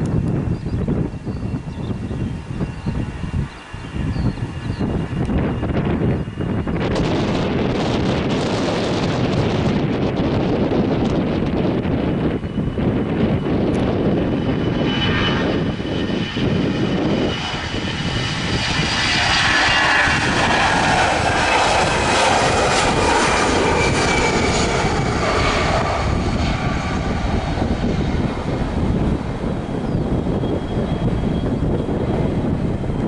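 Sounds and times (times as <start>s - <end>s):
airliner engines passing: 0.0s - 33.0s
wind buffeting microphone: 0.0s - 33.0s.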